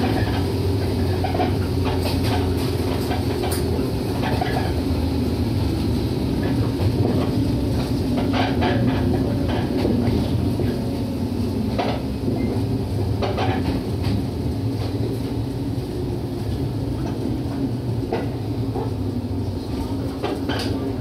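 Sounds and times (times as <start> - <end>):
wheel clacks over rail joints: 0.0 - 15.5, 16.4 - 21.0
train rumble and hum: 0.0 - 21.0.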